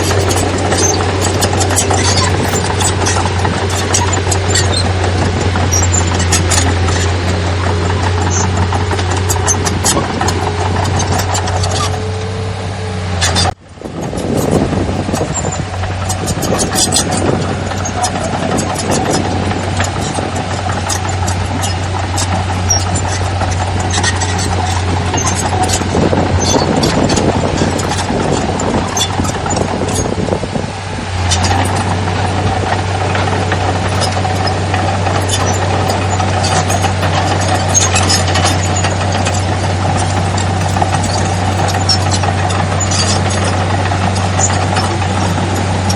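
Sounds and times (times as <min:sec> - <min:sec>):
heavy machinery diesel engine: 0:00.0 - 0:45.9
rattling and clanking: 0:00.0 - 0:45.9.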